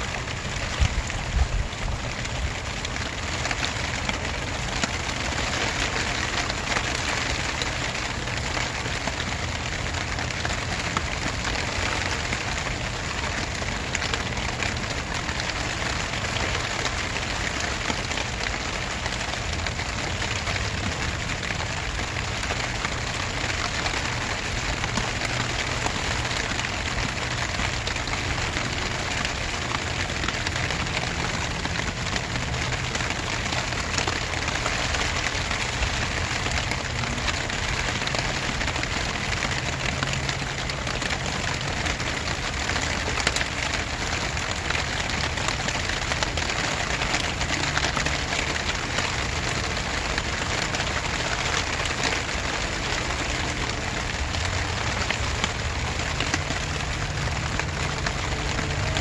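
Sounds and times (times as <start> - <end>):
raindrops ticking close by: 0.0 - 59.0
steady rain hiss: 0.0 - 59.0.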